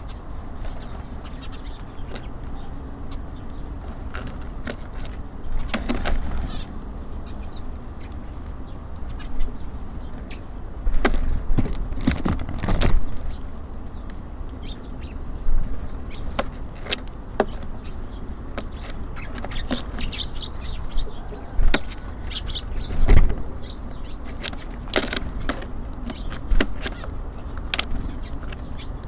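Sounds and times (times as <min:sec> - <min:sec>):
birds tapping and pecking on wood: 0:00.0 - 0:29.0.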